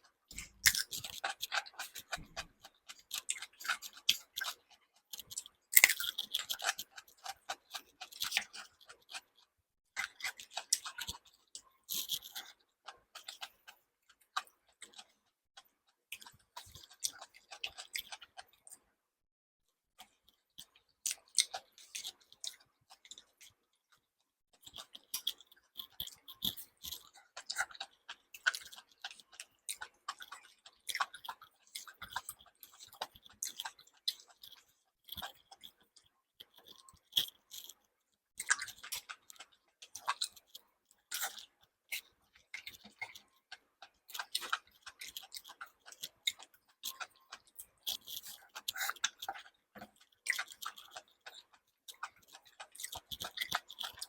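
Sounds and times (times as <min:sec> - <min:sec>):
person chewing and crunching: 0:00.0 - 0:19.0, 0:20.0 - 0:54.0.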